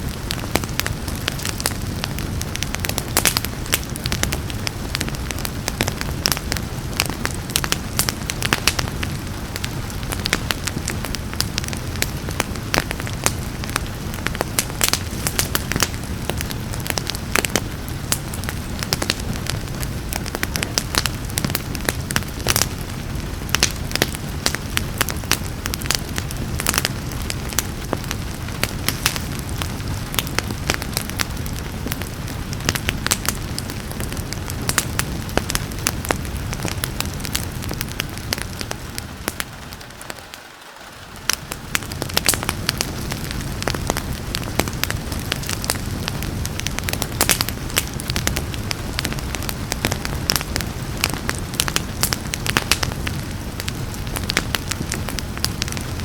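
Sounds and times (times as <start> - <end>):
fireplace crackling: 0.0 - 56.0
rain hiss: 0.0 - 56.0.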